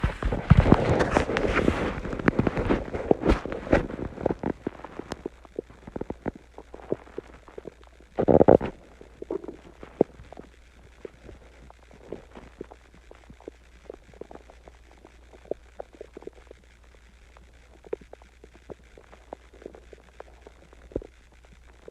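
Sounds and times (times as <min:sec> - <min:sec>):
stomach gurgling: 0:00.0 - 0:21.9.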